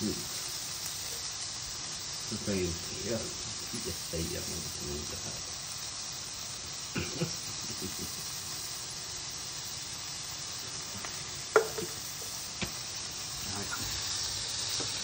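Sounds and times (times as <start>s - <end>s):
meat sizzling on grill pan: 0.0s - 15.0s.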